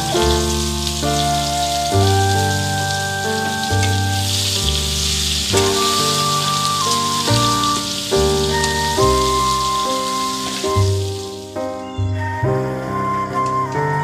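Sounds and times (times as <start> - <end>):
onions sizzling in hot oil: 0.0 - 11.6.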